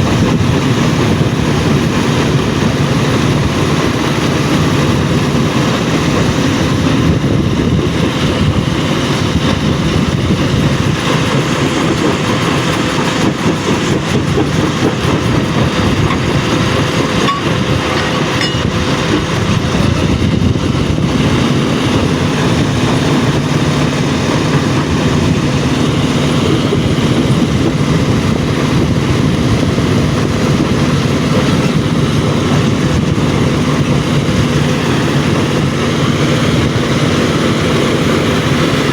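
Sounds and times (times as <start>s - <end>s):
stone crushing machinery running: 0.0s - 38.9s.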